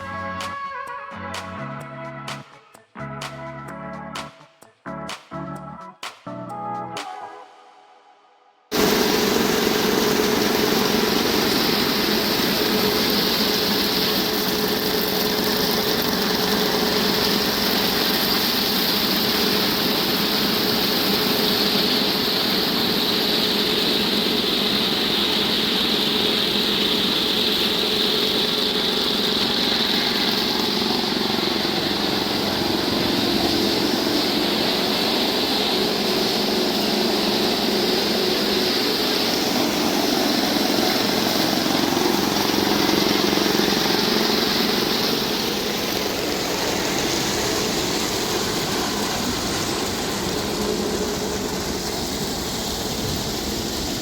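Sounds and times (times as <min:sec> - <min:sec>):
tractor engine running: 0:08.7 - 0:54.0.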